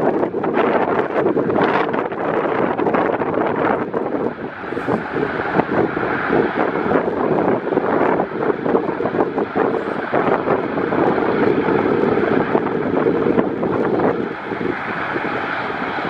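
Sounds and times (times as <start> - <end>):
aircraft engines rumbling: 0.0 - 16.0
wind buffeting microphone: 0.0 - 16.0.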